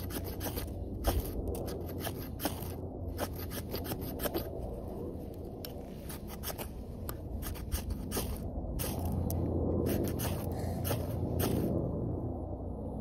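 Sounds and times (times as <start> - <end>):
rubbing and scraping: 0.0 - 11.8
steady low rumble: 0.0 - 13.0.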